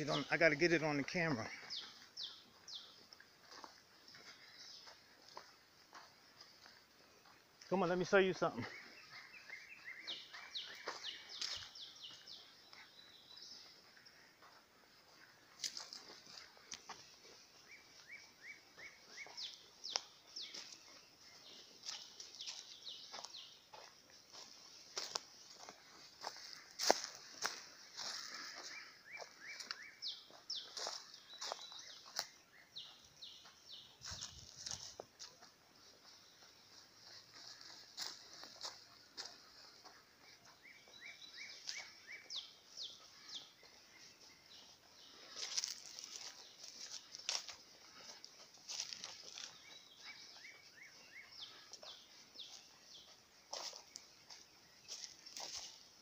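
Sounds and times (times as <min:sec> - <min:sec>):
footsteps on dirt: 0:00.0 - 0:56.0
songbirds calling: 0:00.0 - 0:56.0.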